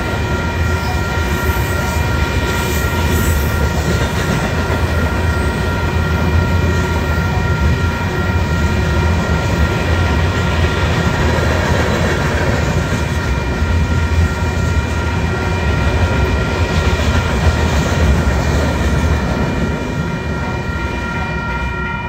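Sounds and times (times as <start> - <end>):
crossing bell ringing: 0.0 - 22.0
freight train rumbling past: 0.0 - 22.0.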